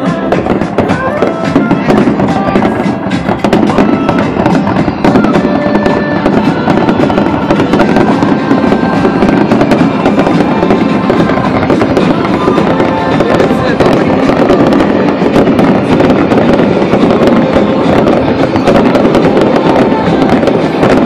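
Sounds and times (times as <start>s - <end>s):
fireworks cracking and popping: 0.0s - 21.0s.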